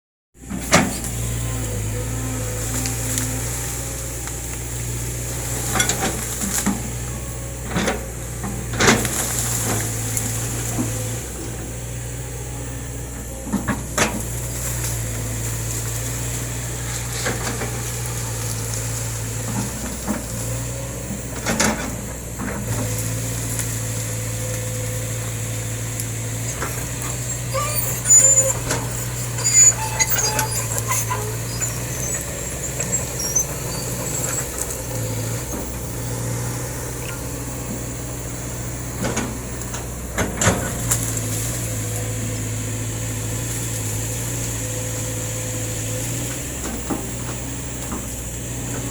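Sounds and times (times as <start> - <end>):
excavator diesel engine running: 0.4 - 48.9.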